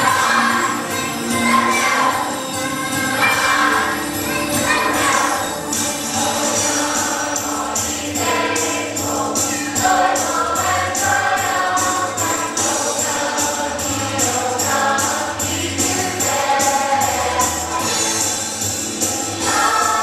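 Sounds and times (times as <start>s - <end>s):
choir singing: 0.0s - 20.0s
crisp percussion beat: 0.0s - 20.0s
musical accompaniment: 0.0s - 20.0s.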